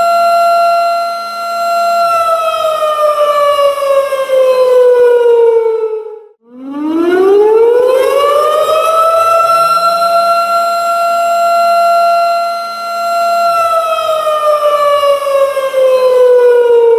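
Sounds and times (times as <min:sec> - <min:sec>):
siren wailing: 0:00.0 - 0:16.9.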